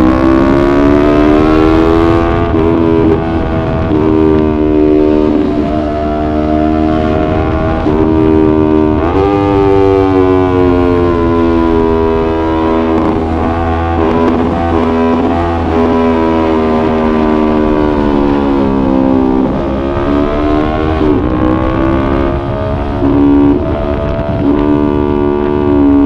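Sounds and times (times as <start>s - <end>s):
motorcycle engine running: 0.0s - 26.0s
wind and road rumble: 0.0s - 26.0s.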